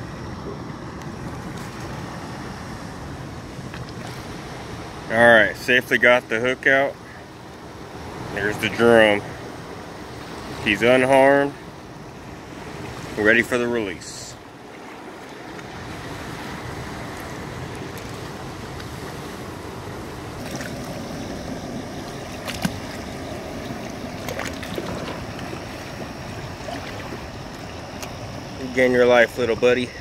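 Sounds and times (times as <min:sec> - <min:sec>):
water sloshing and lapping: 0:00.0 - 0:05.1, 0:07.0 - 0:30.0.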